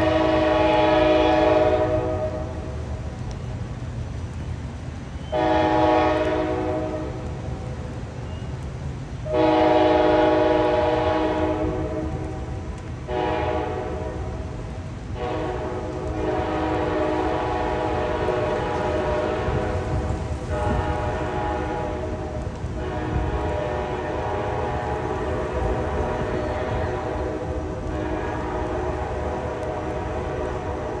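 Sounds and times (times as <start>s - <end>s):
train air horn blasts: 0.0s - 2.8s, 5.3s - 7.7s, 9.2s - 14.5s, 15.2s - 31.0s
low train rumble: 0.0s - 31.0s.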